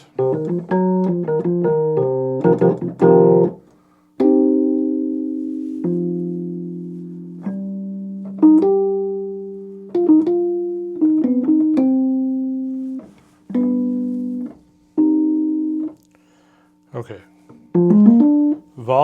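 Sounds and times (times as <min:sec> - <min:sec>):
electric piano chords: 0:00.0 - 0:03.6, 0:04.2 - 0:16.0, 0:17.7 - 0:18.6.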